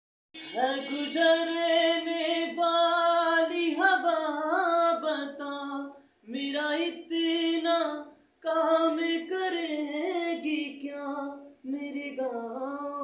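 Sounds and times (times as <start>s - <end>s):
person singing unaccompanied: 0.4s - 13.0s.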